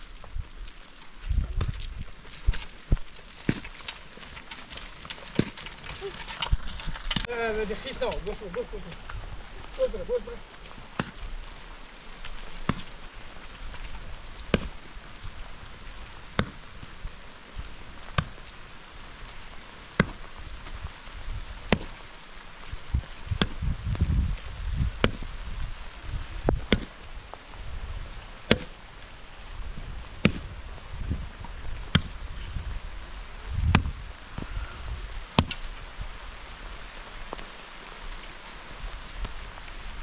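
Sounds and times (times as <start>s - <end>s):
rain hiss: 0.0s - 40.0s.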